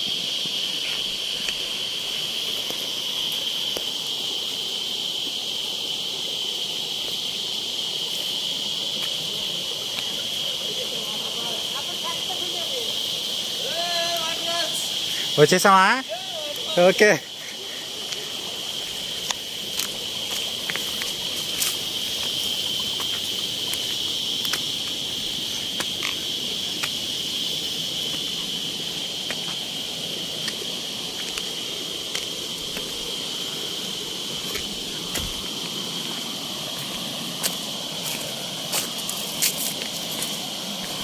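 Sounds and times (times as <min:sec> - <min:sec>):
insect chorus droning: 0:00.0 - 0:41.0.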